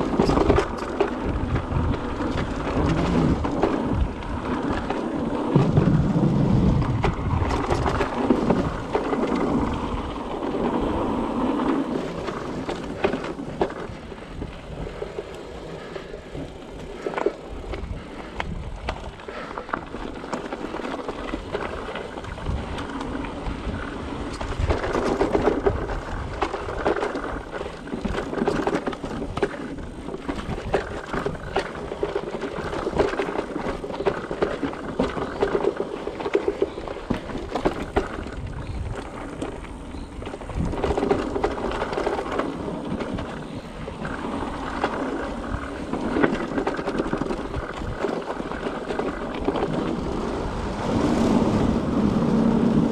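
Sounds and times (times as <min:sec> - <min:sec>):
bike knocks and rattles: 0:00.0 - 0:51.6
bike tyres on dirt: 0:00.0 - 0:52.9.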